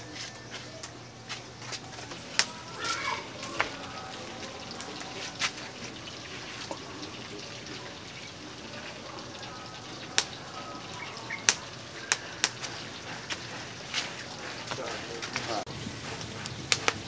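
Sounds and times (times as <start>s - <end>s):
fire hissing: 0.0s - 17.0s
fire popping: 0.0s - 17.0s
wood fire crackling: 0.0s - 17.0s.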